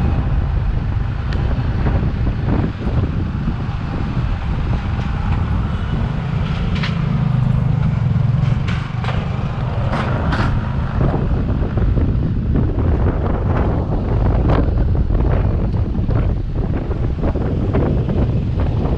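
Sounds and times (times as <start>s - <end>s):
motorcycle engine rumble: 0.0s - 18.9s
wind on microphone: 0.0s - 18.9s.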